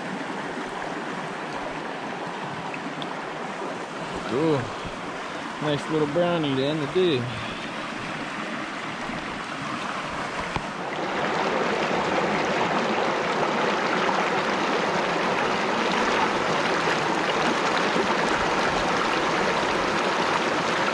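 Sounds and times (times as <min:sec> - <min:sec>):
river water rushing: 0:00.0 - 0:20.9.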